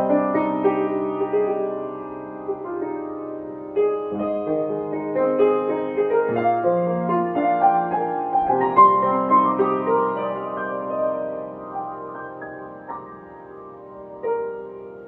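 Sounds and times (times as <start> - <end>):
solo piano: 0.0 - 15.0.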